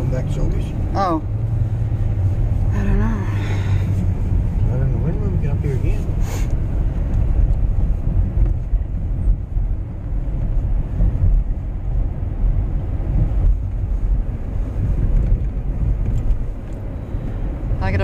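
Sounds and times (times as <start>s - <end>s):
van engine rumble from inside: 0.0s - 18.0s.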